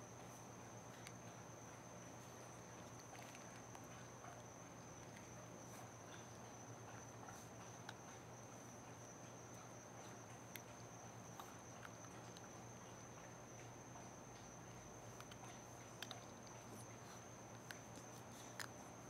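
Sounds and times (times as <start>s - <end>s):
puppy chewing clicks: 2.3s - 19.0s.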